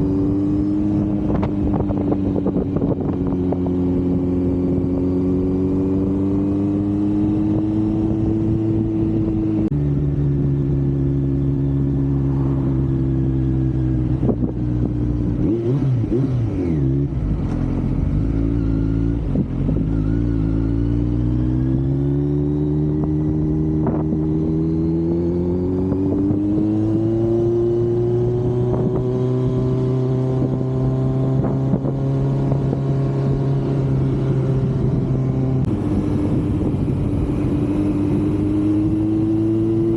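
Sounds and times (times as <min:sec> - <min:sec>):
wind noise on microphone: 0:00.0 - 0:09.8, 0:12.4 - 0:39.9
motorcycle engine and exhaust: 0:00.0 - 0:39.9.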